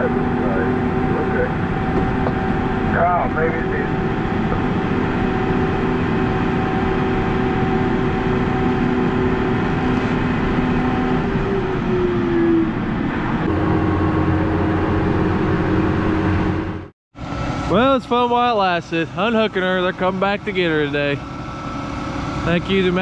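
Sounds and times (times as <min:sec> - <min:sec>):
combine harvester running: 0:00.0 - 0:23.0
deep steady hum: 0:00.0 - 0:23.0
steady hum tones: 0:00.0 - 0:23.0.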